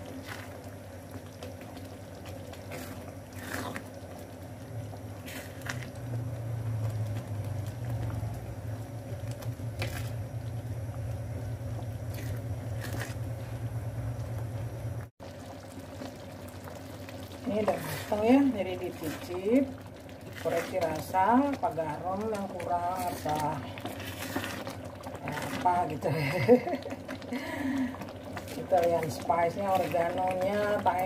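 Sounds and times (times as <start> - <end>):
sauce bubbling in frying pan: 0.0 - 31.0
steady low hum: 0.0 - 31.0.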